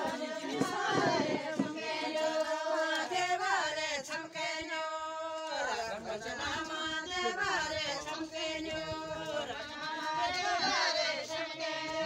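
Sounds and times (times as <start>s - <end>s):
group singing folk song: 0.0s - 12.0s.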